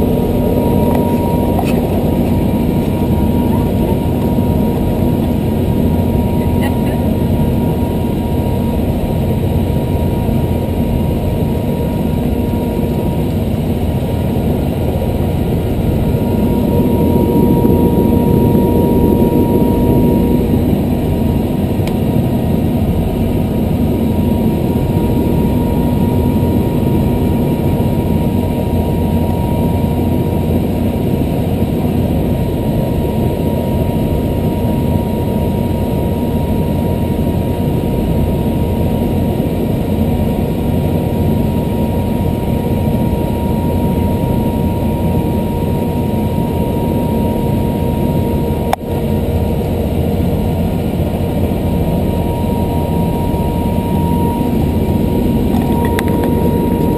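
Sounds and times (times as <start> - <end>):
helicopter engine running: 0.0 - 56.9
thin engine whine: 0.0 - 56.9.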